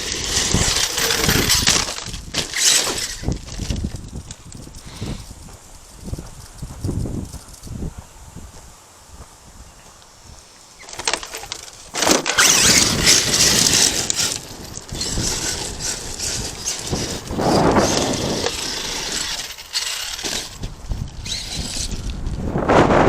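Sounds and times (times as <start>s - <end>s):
rc truck tyres on gravel: 0.0s - 23.0s.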